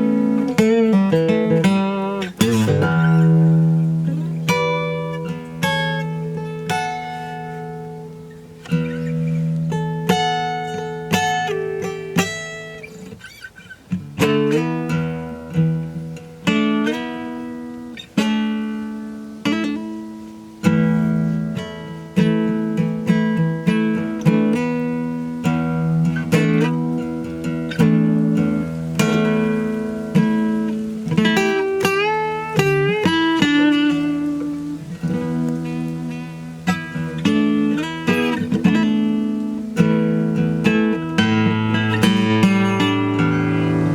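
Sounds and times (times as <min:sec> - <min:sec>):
acoustic guitar: 0:00.0 - 0:43.9.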